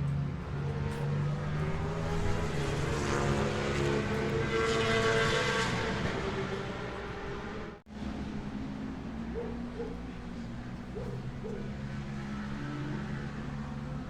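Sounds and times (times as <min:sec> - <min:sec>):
racing motorcycle engine revving: 0:00.0 - 0:07.8, 0:09.1 - 0:14.0.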